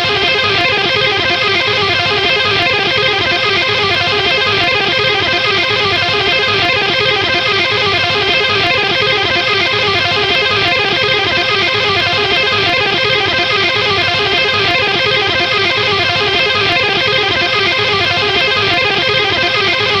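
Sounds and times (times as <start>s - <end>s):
guitar strumming rock chords: 0.0s - 20.0s.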